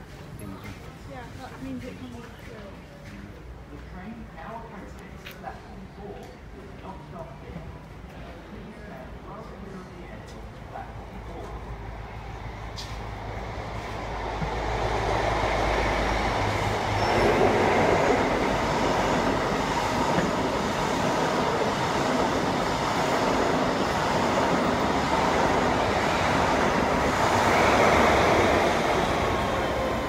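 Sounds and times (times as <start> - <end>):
passenger train passing: 4.2 - 30.0.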